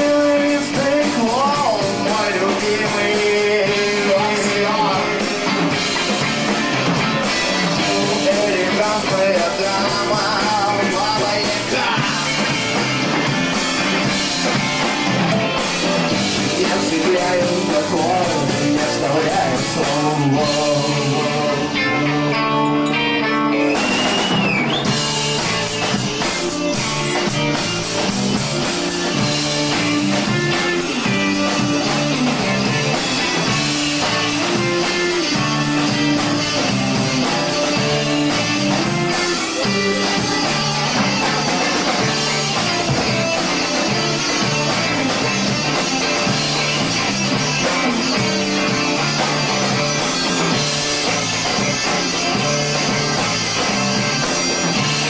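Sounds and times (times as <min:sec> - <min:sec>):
bass line: 0:00.0 - 0:55.0
drum kit beat: 0:00.0 - 0:55.0
electric guitars: 0:00.0 - 0:55.0.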